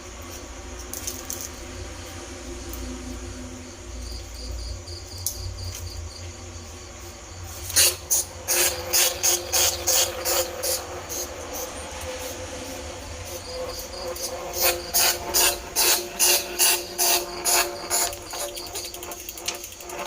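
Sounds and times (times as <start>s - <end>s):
faint insect chirring: 0.0s - 20.0s.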